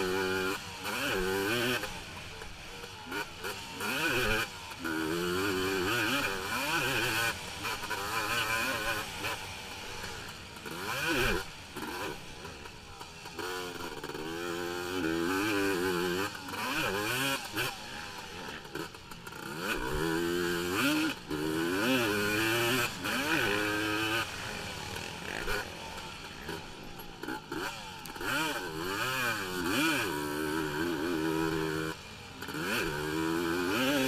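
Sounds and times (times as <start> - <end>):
quad engine revving: 0.0 - 34.0.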